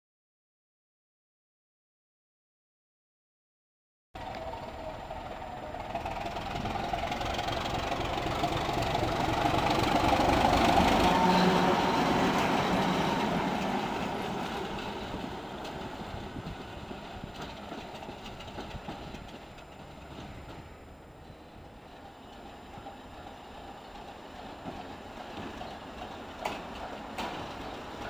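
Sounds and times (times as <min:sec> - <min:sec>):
diesel locomotive passing: 0:04.2 - 0:28.0.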